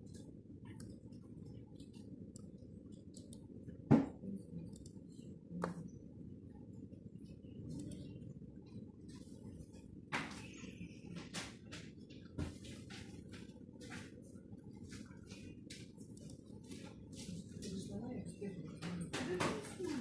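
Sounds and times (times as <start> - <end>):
steady low rumble: 0.0 - 18.7.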